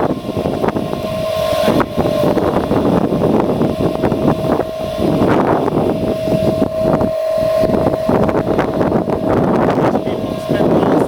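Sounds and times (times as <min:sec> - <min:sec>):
truck engine rough rumble: 0:00.0 - 0:11.0
wind buffeting microphone: 0:00.0 - 0:11.0.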